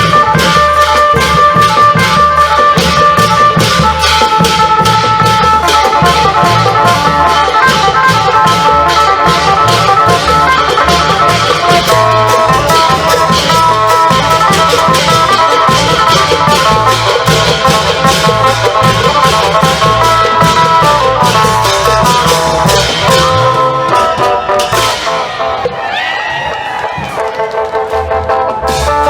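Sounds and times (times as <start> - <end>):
lute melody: 0.0 - 26.1
long drums beating: 0.0 - 27.3.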